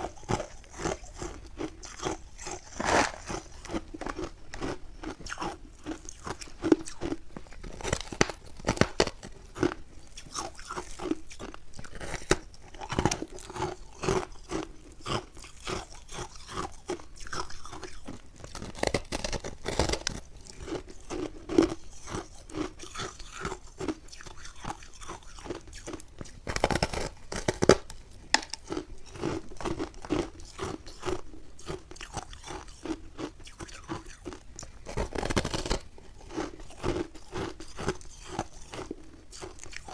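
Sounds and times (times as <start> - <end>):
crunchy ice chewing: 0.0 - 39.9.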